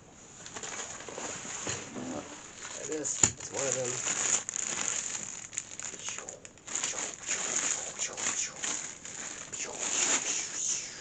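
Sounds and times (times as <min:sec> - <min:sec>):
plastic packaging crinkling: 0:00.5 - 0:01.4, 0:02.4 - 0:10.6.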